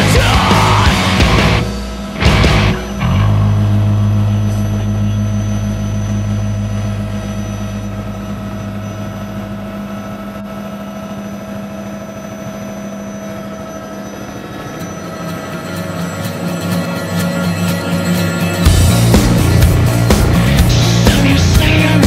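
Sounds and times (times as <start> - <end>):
helicopter engine and rotor drone: 0.0 - 22.0
high steady whines: 0.0 - 22.0.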